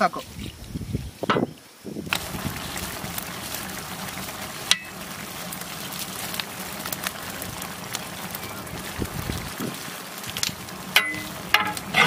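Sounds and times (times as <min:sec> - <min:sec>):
masala sizzling in a pot: 0:00.0 - 0:12.0
wood fire crackles: 0:00.0 - 0:12.0.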